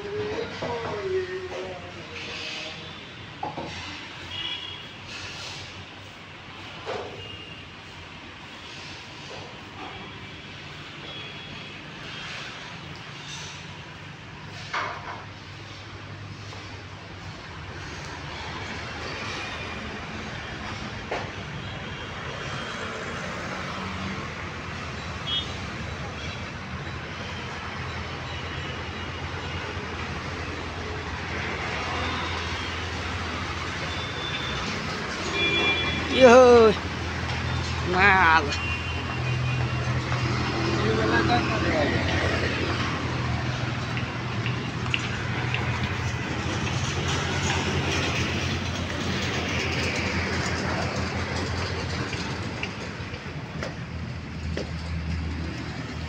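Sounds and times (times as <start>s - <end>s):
outdoor noise: 0.0s - 56.0s
street traffic noise: 0.0s - 56.0s.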